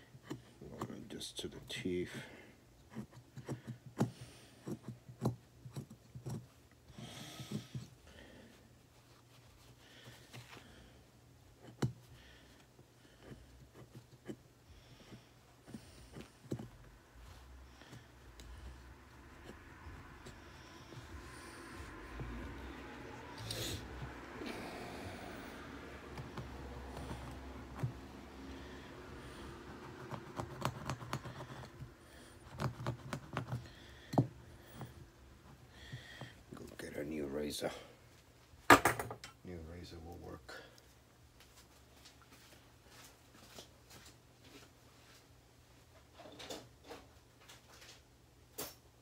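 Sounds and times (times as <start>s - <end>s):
low steady hum: 0.0s - 46.6s.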